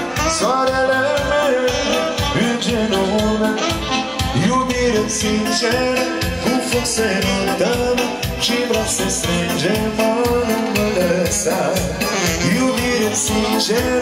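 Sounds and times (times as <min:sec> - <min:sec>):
saxophone-led folk dance music: 0:00.0 - 0:14.0.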